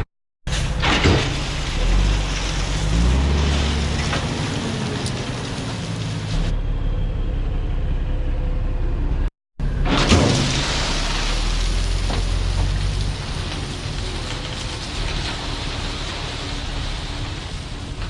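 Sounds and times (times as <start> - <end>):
heavy diesel engine under load: 0.0 - 18.0.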